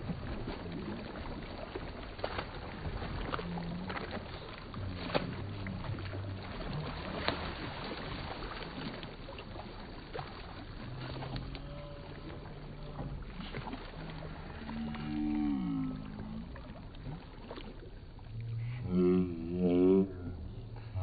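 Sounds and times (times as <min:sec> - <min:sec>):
small splashes and knocks: 0:00.0 - 0:18.6
paddle strokes splashing in water: 0:00.0 - 0:19.0
faint low hum: 0:00.0 - 0:21.0
water wash: 0:00.0 - 0:21.0.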